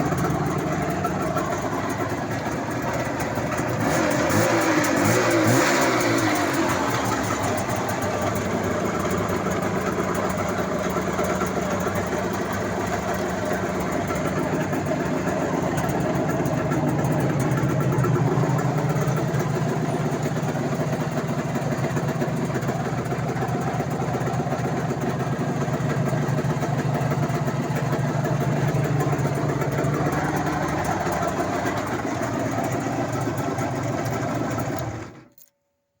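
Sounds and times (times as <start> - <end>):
motorcycle engine idling: 0.0 - 35.3.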